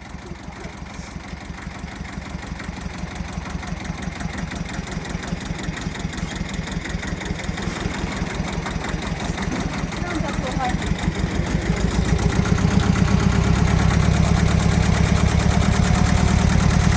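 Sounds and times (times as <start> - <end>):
tractor engine pulsing: 0.0 - 16.9.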